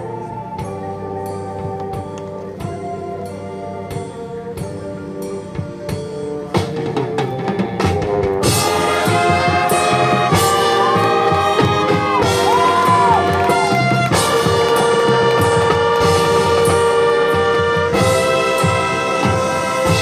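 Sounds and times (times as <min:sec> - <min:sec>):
brass section playing chords: 0:00.0 - 0:20.0.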